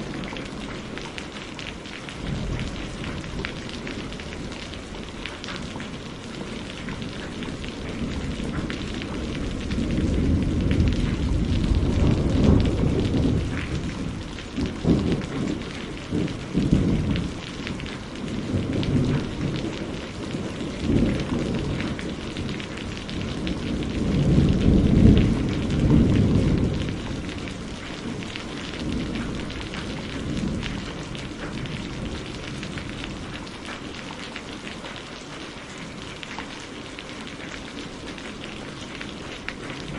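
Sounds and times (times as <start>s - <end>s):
rolling thunder rumble: 0.0s - 33.9s
heavy rain falling: 0.0s - 39.9s.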